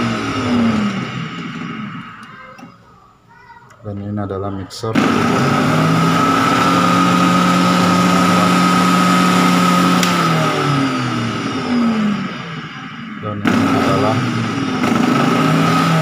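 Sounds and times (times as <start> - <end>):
food processor motor whining: 0.0 - 2.7, 4.9 - 16.0.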